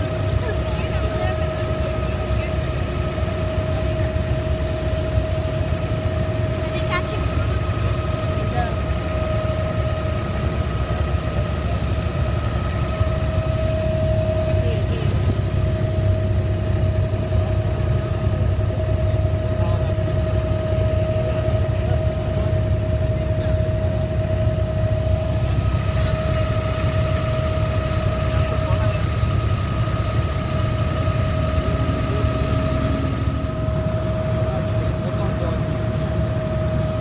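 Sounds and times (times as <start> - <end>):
boat diesel engine droning: 0.0 - 37.0
constant engine whine: 0.0 - 37.0.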